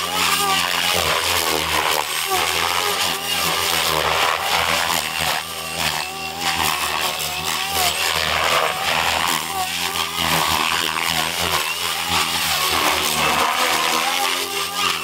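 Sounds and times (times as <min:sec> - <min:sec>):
rc helicopter motor whine: 0:00.0 - 0:15.0
rotor blades whooshing: 0:00.0 - 0:15.0.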